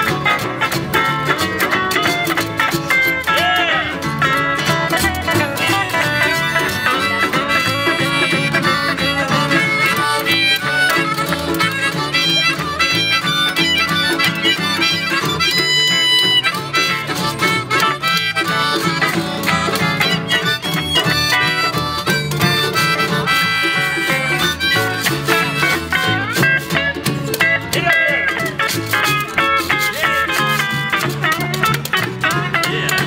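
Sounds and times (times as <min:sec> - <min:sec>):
electric guitar: 0:00.0 - 0:33.0
harmonica: 0:00.0 - 0:33.0
plucked upright bass: 0:00.0 - 0:33.0
strummed acoustic guitar: 0:00.0 - 0:33.0
washboard rhythm: 0:00.0 - 0:33.0.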